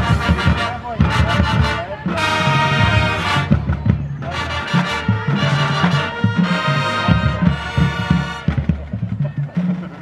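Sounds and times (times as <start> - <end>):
brass band playing: 0.0 - 9.0
drums: 0.0 - 10.0.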